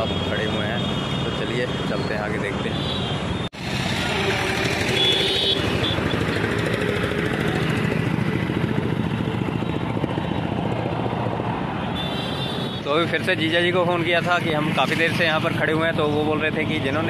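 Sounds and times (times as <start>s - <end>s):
roadside traffic: 0.0s - 17.0s.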